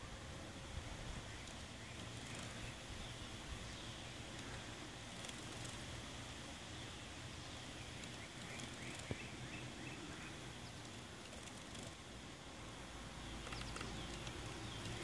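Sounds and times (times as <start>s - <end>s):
faint outdoor ambience: 0.0s - 15.0s
small bird chirps: 1.2s - 5.9s, 6.6s - 12.0s, 12.6s - 15.0s.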